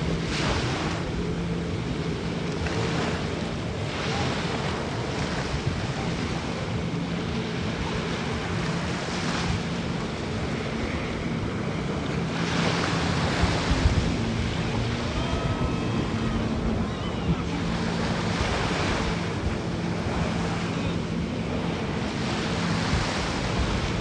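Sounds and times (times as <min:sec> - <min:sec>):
surf: 0:00.0 - 0:24.0
watercraft engine running: 0:00.0 - 0:24.0
wind buffeting microphone: 0:00.0 - 0:24.0.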